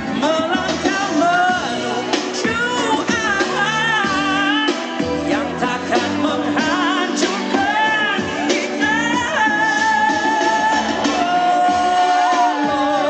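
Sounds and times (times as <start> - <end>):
instrumental backing: 0.0 - 13.0
man singing into a microphone: 0.0 - 13.0.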